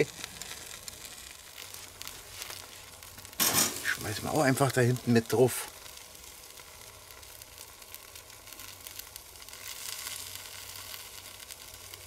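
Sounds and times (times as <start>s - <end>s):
meat sizzling on grill: 0.0s - 12.0s
small crackles: 0.0s - 12.0s.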